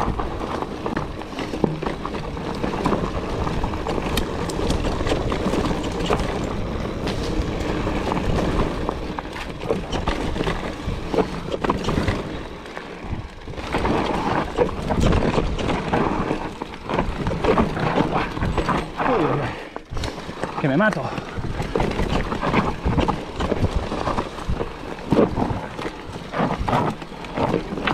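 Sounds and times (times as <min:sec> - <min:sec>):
bike rattling and clicking: 0:00.0 - 0:27.9
tyres crunching over gravel: 0:00.0 - 0:27.9.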